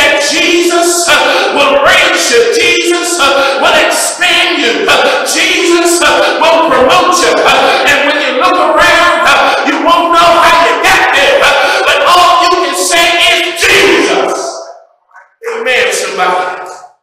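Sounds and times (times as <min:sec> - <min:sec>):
man singing into microphone: 0:00.0 - 0:14.5.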